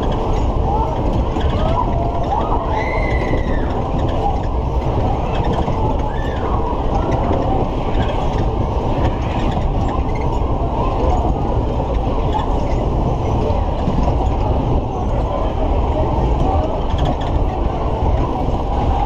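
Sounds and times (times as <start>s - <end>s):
fairground ride mechanical rumble: 0.0s - 19.0s.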